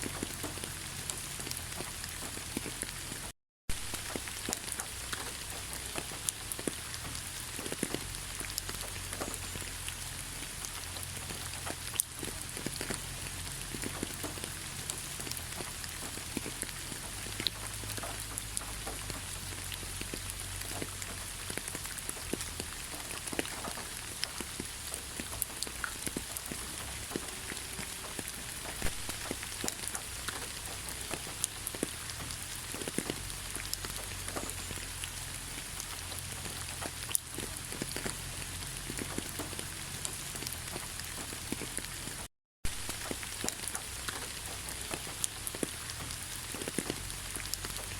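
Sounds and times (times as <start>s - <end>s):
rain hissing in forest: 0.0s - 47.9s
raindrops pattering: 0.0s - 47.9s.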